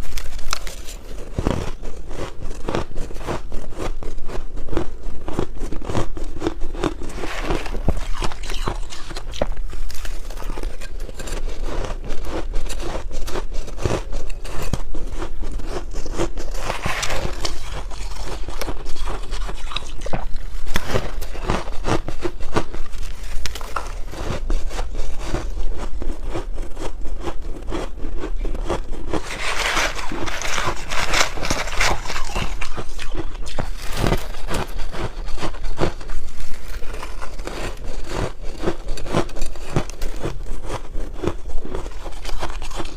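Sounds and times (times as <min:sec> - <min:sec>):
chewing crunchy ice: 0:00.0 - 0:42.9.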